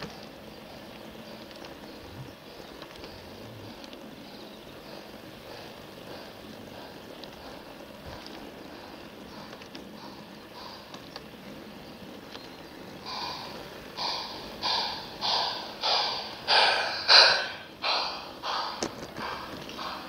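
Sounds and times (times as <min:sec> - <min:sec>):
model steam locomotive chuffing: 0:00.0 - 0:20.0.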